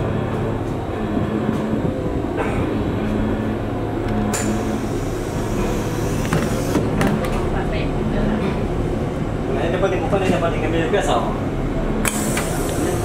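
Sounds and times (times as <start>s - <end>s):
diesel railcar engine drone: 0.0s - 13.0s
wheels rumbling and rattling on track: 0.0s - 13.0s.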